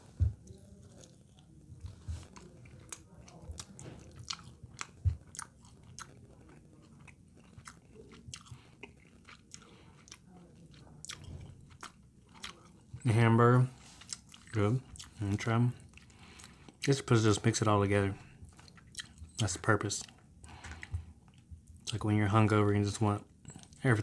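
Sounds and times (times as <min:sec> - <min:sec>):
man chewing food: 0:00.0 - 0:22.6, 0:23.2 - 0:24.0.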